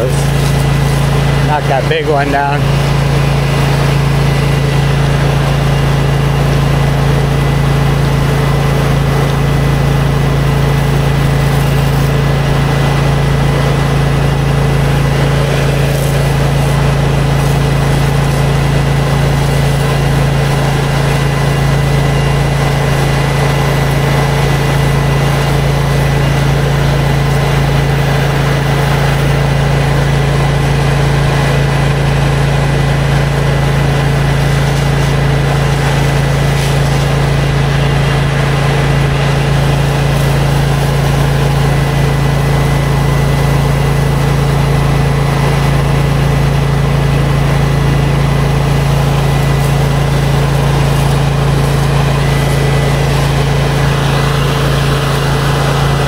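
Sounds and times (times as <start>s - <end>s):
gas engine running: 0.0s - 56.0s
high-pressure water spray hissing: 0.0s - 56.0s.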